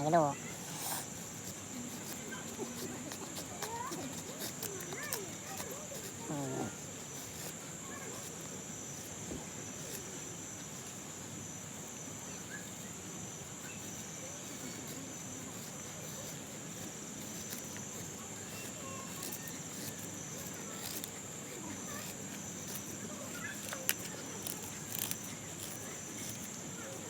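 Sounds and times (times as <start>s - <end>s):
crickets trilling: 0.0s - 27.0s
knife shaving wood: 0.0s - 27.0s.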